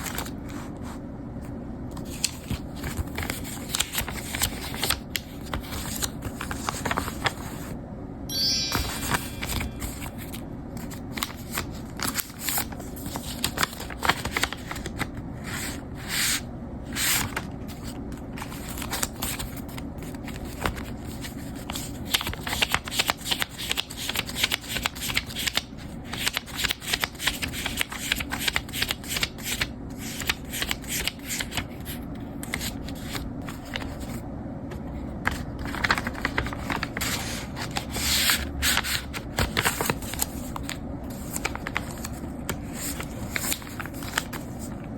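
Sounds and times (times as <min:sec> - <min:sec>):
paper rustling: 0:00.0 - 0:01.0, 0:02.0 - 0:07.8, 0:08.8 - 0:34.2, 0:34.8 - 0:44.9.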